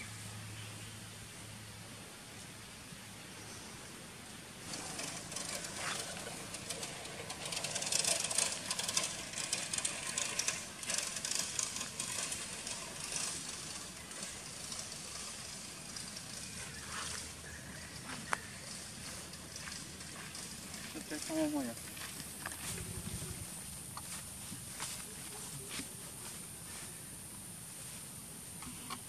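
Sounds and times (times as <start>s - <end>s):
leaves and branches rustling: 0.0s - 29.0s.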